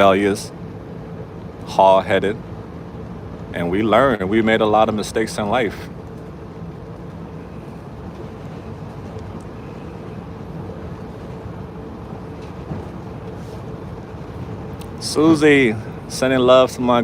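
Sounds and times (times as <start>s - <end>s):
faint steady hum: 0.0s - 17.0s
train car rumble: 0.0s - 17.0s.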